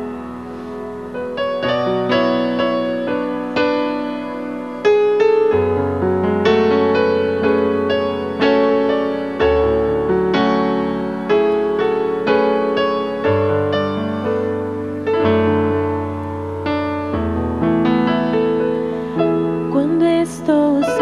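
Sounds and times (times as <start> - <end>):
slow gentle piano: 0.0 - 21.0.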